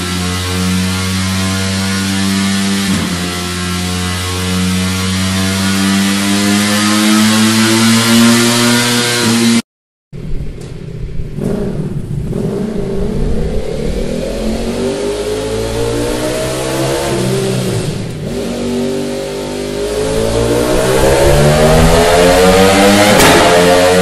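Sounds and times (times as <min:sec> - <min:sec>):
motorcycle engine revving: 0:00.0 - 0:09.6, 0:10.2 - 0:24.0.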